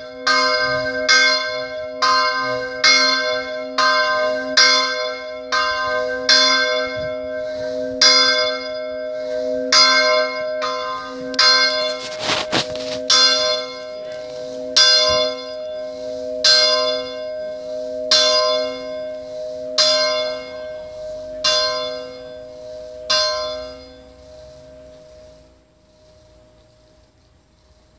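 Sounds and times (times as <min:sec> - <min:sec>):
large church bell ringing: 0:00.0 - 0:27.0.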